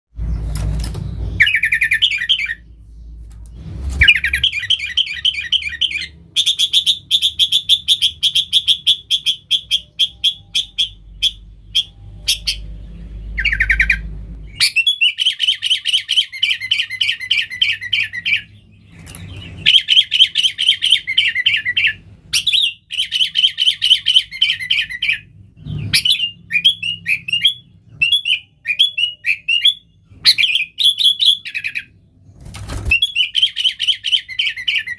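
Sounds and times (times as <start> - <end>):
bulbul rapid chirping song: 1.1 - 3.2, 4.0 - 32.0, 32.8 - 34.9.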